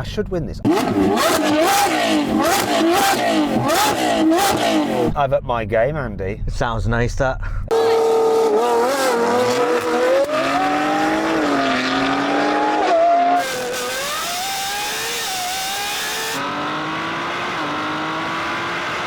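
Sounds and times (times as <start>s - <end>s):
car engine accelerating: 0.6s - 5.2s, 7.7s - 19.0s.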